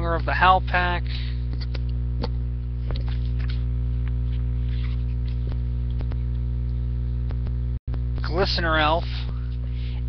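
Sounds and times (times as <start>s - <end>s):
mains hum: 0.0s - 10.0s.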